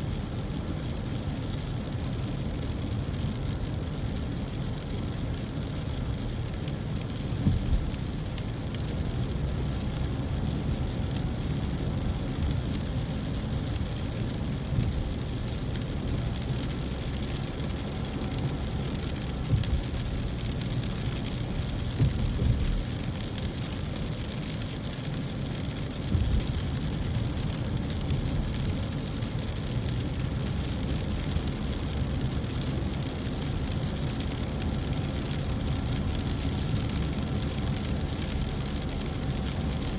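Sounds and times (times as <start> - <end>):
car rumbling on wet road: 0.0 - 39.9
raindrops ticking on car: 0.0 - 39.9.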